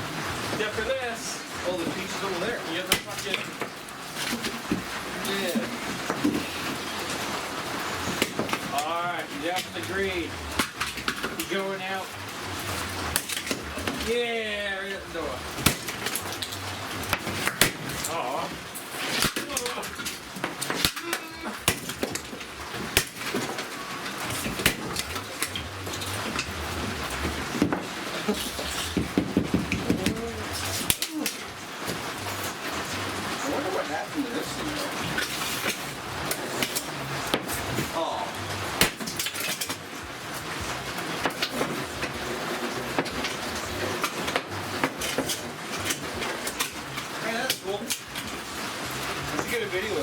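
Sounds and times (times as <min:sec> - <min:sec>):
electrical sparking crackles: 0:00.0 - 0:50.0
low steady hum: 0:00.0 - 0:50.0.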